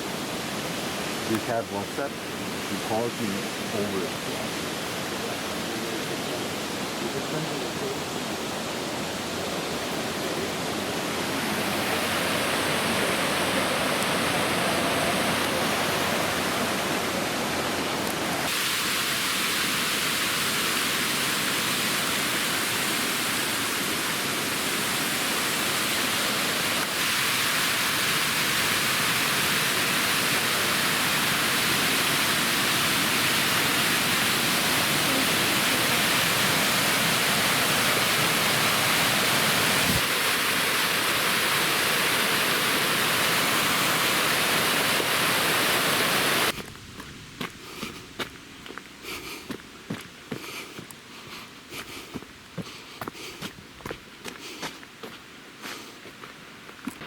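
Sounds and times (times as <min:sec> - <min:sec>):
waterfall rushing: 0:00.0 - 0:46.6.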